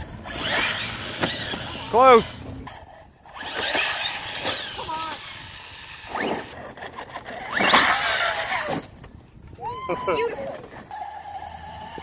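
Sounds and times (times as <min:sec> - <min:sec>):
electric motors whining: 0:00.0 - 0:08.9, 0:10.1 - 0:12.0.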